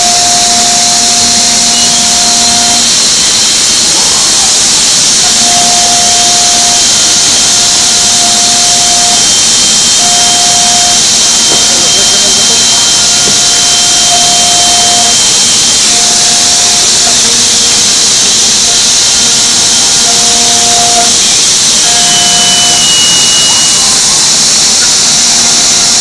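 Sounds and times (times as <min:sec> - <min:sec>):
router cutter hissing in wood: 0:00.0 - 0:26.0
short machine whines: 0:00.0 - 0:26.0.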